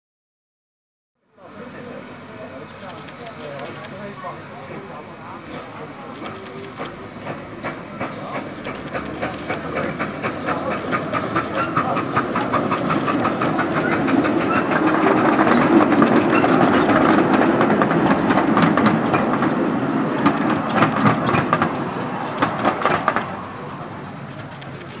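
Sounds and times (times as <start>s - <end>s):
miniature steam train passing: 1.3s - 25.0s
train wheels clicking on track: 1.4s - 25.0s.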